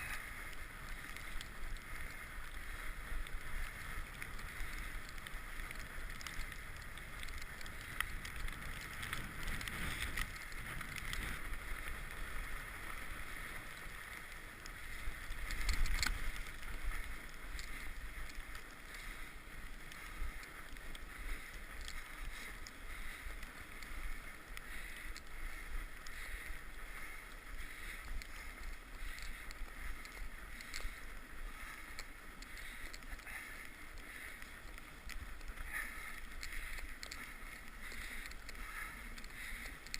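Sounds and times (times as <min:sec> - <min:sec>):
bike tyre and wind noise: 0:00.0 - 0:39.9
small rattles and clicks: 0:00.0 - 0:39.9.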